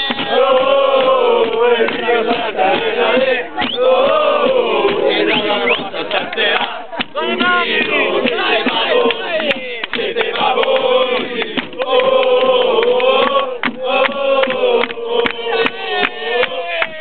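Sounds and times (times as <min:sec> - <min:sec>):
sharp claps or knocks: 0:00.0 - 0:05.1, 0:06.0 - 0:17.0
men chanting in unison: 0:00.0 - 0:17.0.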